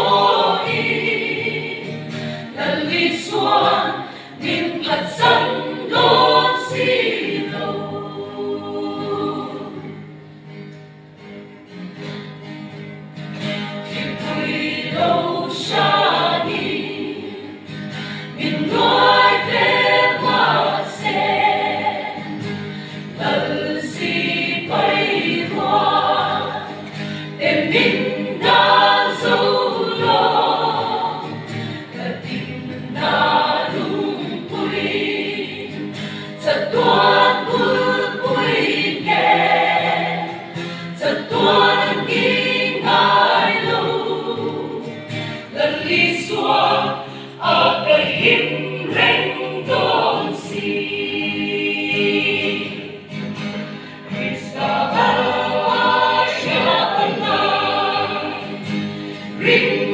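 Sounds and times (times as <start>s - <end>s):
mixed choir singing a hymn: 0.0s - 10.1s, 13.8s - 59.9s.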